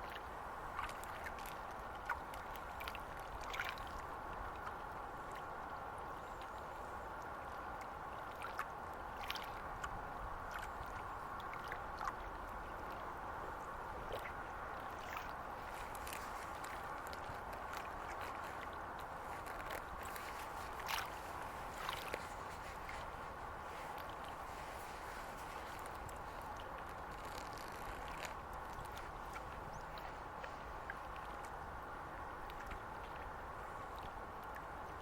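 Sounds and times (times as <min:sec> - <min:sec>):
small water splashes: 0:00.0 - 0:35.0
water lapping and sloshing: 0:00.0 - 0:35.0.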